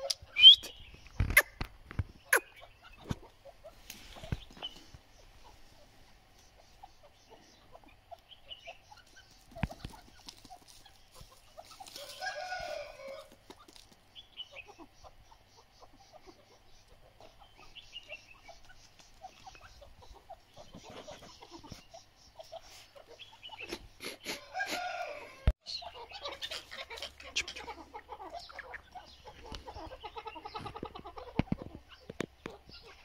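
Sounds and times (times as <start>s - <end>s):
partridges calling: 0.0s - 33.0s.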